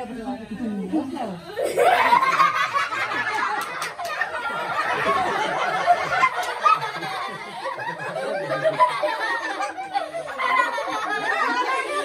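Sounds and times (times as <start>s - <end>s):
children laughing: 1.5s - 12.0s.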